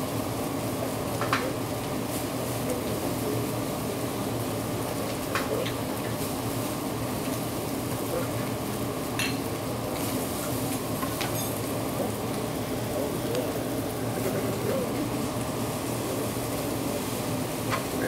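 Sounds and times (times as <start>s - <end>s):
fried rice sizzling on a griddle: 0.0s - 18.0s.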